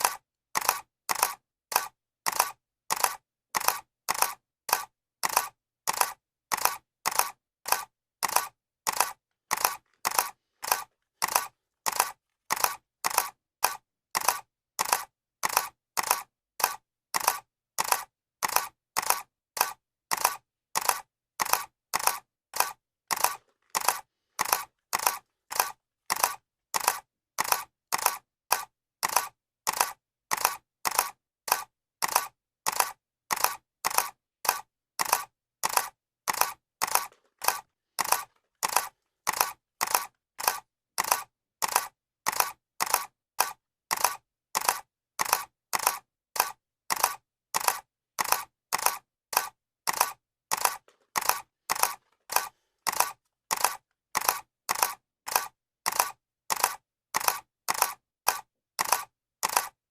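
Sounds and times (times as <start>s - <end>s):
camera shutter clicking: 0.0s - 59.8s.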